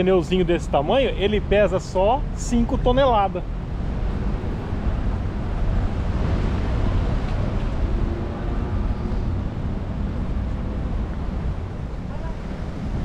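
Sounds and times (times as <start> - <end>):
street traffic: 0.0 - 13.0
wind rumbling on microphone: 0.0 - 13.0.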